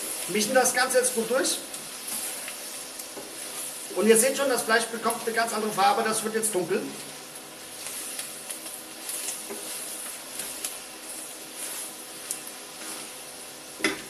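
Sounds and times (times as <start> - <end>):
pork sizzling in a pot: 0.0 - 14.0
wooden spoon stirring and scraping: 0.0 - 14.0.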